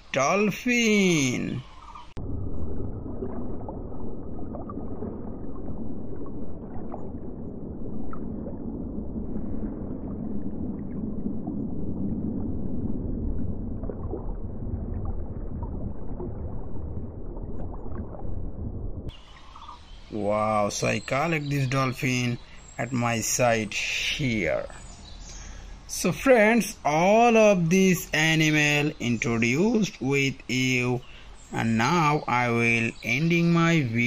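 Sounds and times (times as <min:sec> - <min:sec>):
muffled underwater water rush: 0:01.6 - 0:30.3.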